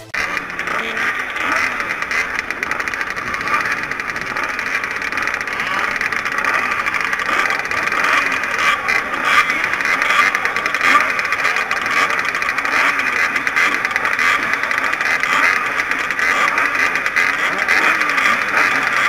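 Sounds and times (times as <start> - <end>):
dirt-bike engines idling and revving: 0.0 - 19.0.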